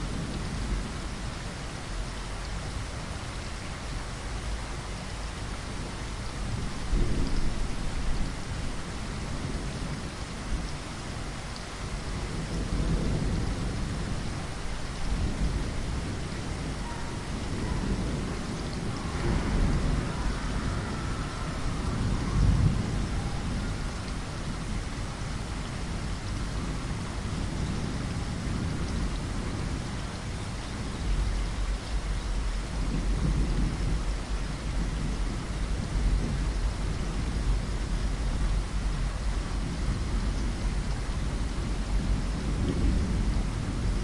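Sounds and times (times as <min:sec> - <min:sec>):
rain against a window: 0:00.0 - 0:44.0
rolling thunder: 0:05.4 - 0:10.6, 0:11.9 - 0:44.0.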